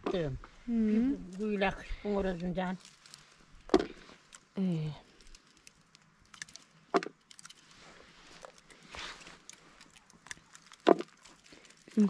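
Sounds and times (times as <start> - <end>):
shrub branches rustling and snapping: 1.2 - 12.0.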